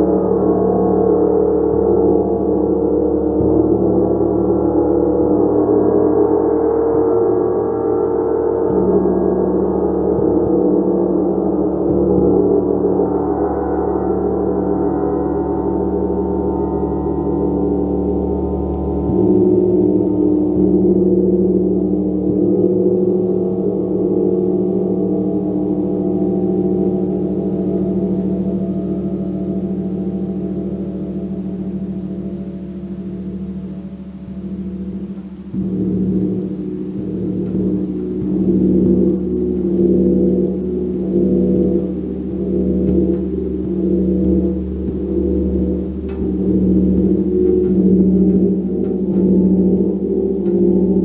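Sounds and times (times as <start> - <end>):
gong ringing: 0.0 - 51.0.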